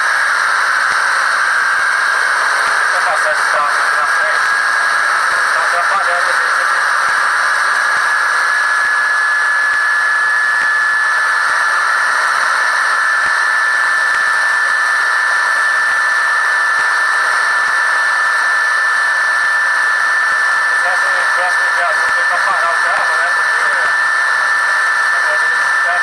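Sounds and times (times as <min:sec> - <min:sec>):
high whine: 0:00.0 - 0:26.0.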